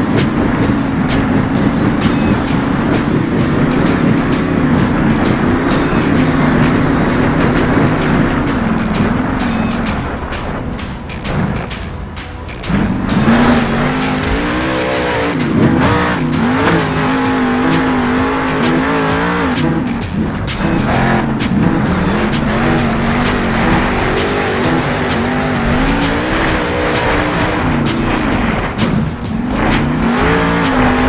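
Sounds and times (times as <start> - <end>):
vehicle motor revving: 0.0 - 31.0.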